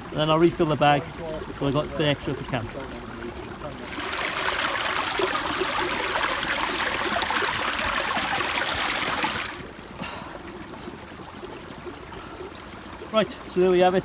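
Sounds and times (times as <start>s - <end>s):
brook water rushing: 0.0s - 14.0s.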